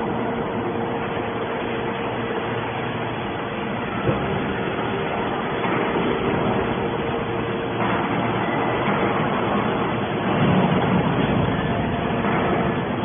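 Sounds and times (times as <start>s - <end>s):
hydraulic baler running: 0.0s - 13.0s.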